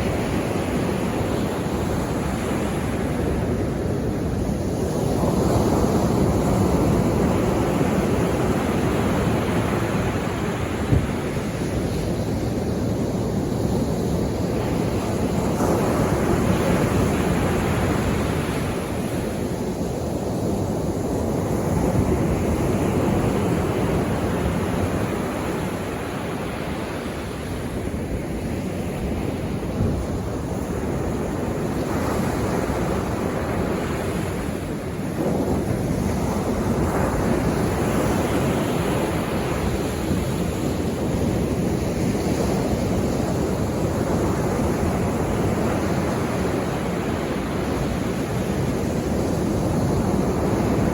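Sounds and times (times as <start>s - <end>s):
sea waves breaking on shore: 0.0s - 50.9s
wind on microphone: 0.0s - 50.9s.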